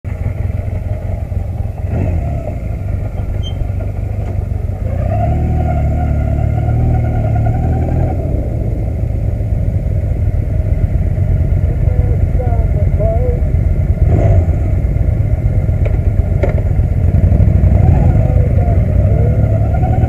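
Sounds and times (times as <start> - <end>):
motorcycle engine revving: 0.1 - 20.0.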